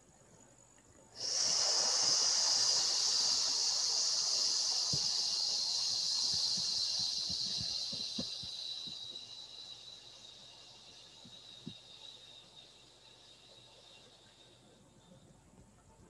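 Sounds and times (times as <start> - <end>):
person exhaling hissing sss: 1.1 - 14.5.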